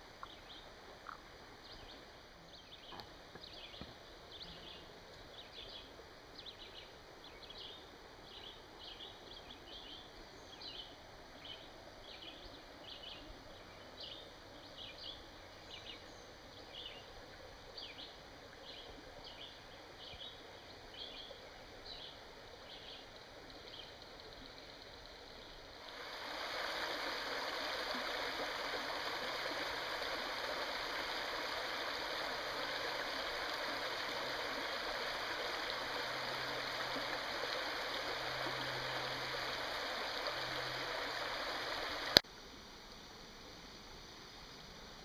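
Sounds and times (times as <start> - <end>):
faint background hiss: 0.0 - 45.0.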